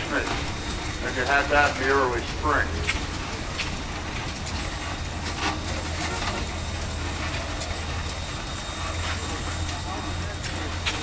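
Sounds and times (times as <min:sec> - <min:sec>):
steam traction engine rumbling: 0:00.0 - 0:11.0.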